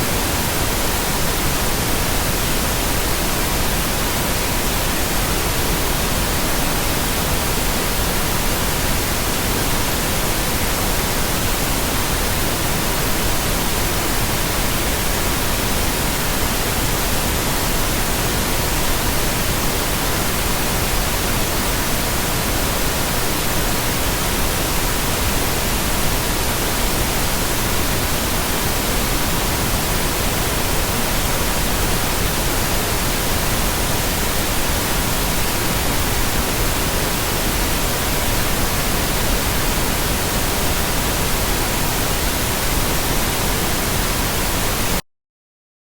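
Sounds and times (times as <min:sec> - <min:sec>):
steady pink noise: 0:00.0 - 0:45.0.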